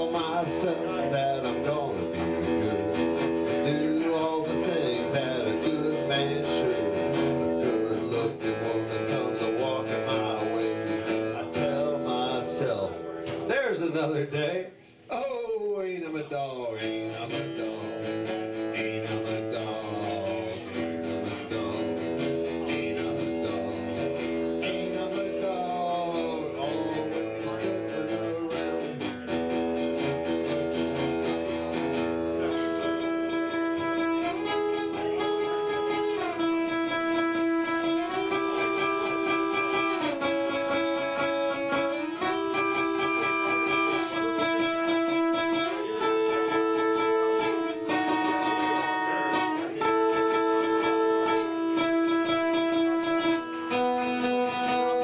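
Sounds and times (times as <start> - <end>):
blues guitar solo: 0.0 - 14.4, 16.6 - 55.0.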